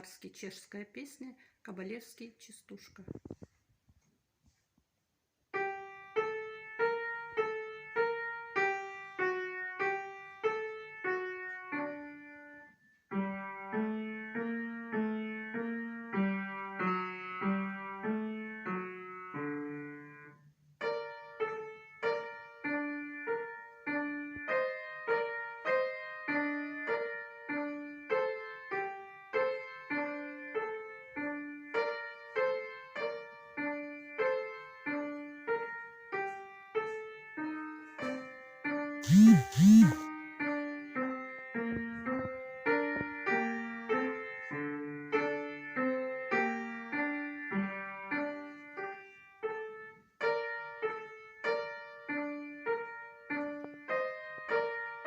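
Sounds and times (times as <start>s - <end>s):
solo piano piece: 5.5s - 39.0s, 40.1s - 55.0s.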